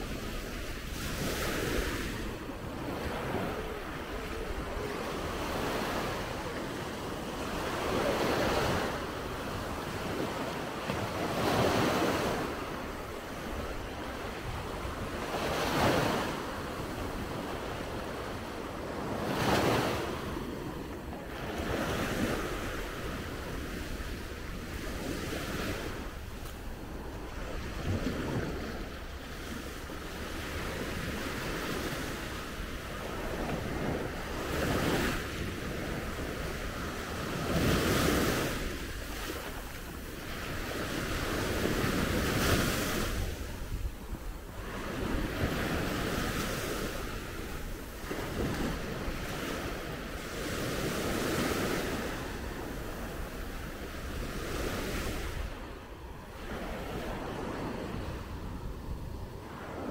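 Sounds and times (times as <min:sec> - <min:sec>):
sea waves breaking on shore: 0:00.0 - 0:59.9
wind buffeting microphone: 0:00.0 - 0:59.9.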